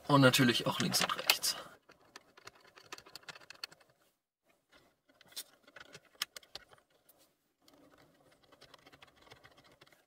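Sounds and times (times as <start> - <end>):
small clicks and scrapes of screws: 0.8 - 4.0, 4.7 - 10.0.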